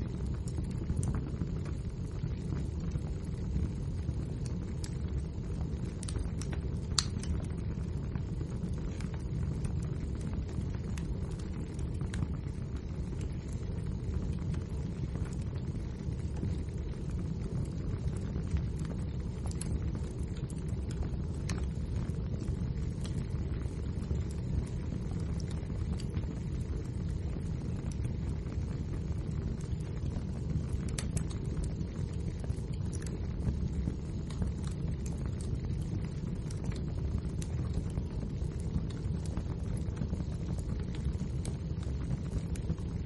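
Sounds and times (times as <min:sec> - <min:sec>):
fire crackling and popping: 0:00.0 - 0:43.0
fire flames rumbling: 0:00.0 - 0:43.0.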